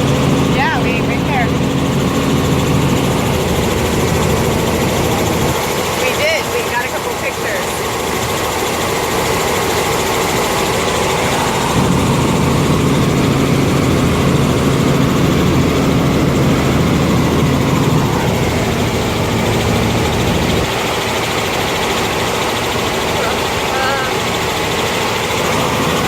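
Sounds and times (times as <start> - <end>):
helicopter engine and rotor: 0.0 - 26.0.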